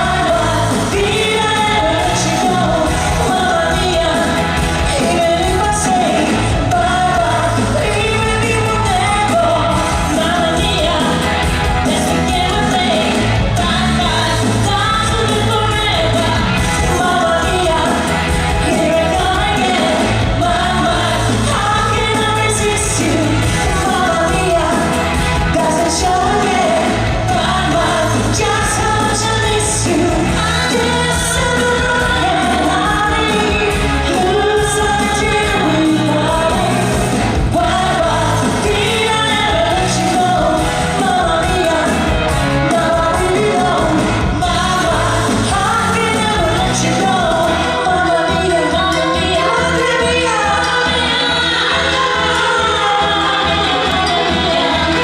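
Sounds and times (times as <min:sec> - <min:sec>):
person singing: 0:00.0 - 0:55.0
pop band playing: 0:00.0 - 0:55.0.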